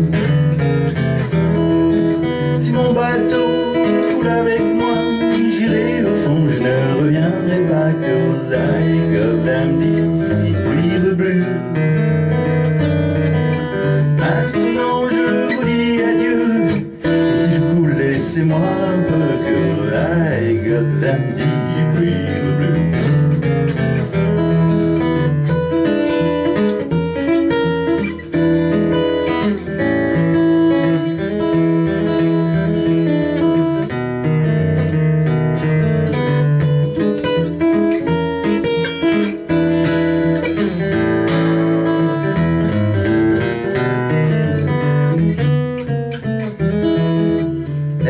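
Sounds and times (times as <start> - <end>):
acoustic guitar playing: 0.0 - 48.0.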